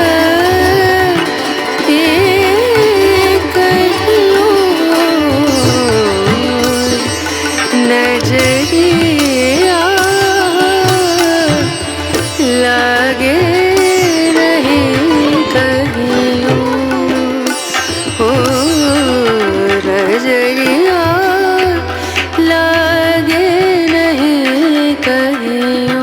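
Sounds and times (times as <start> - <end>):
film song with plucked strings: 0.0 - 26.0.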